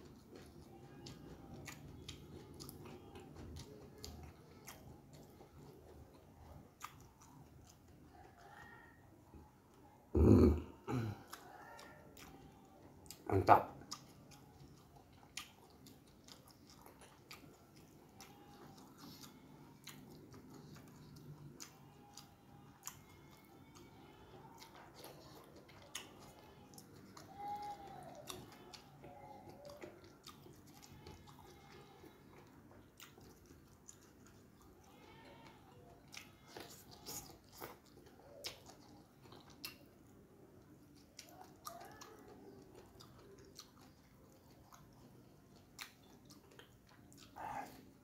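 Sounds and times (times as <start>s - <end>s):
soft wet chewing: 0.0s - 48.0s.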